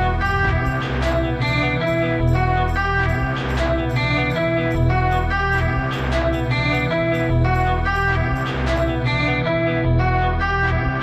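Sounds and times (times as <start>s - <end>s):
deep bass: 0.0s - 11.0s
held melody notes: 0.0s - 11.0s.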